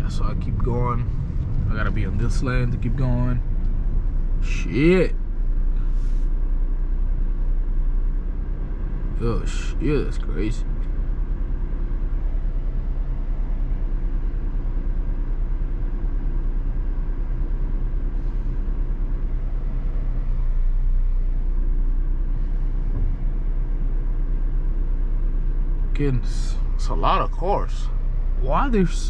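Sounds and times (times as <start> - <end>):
car engine and road rumble: 0.0 - 29.0
faint steady hum: 0.0 - 29.0.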